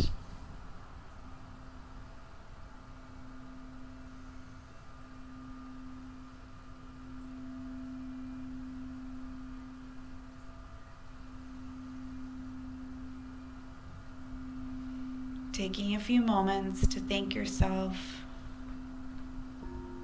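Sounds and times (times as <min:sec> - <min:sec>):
singing bowl ringing: 0:01.7 - 0:20.0.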